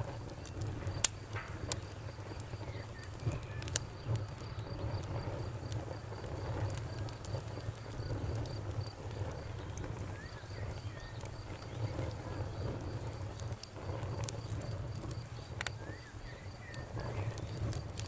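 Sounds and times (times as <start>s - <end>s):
campfire crackling: 0.0s - 18.0s
crickets chirping: 0.0s - 18.0s.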